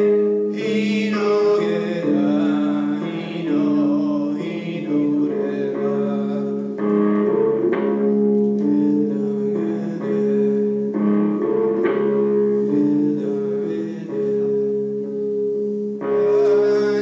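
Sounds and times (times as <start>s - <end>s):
psychedelic drone music: 0.0s - 17.0s.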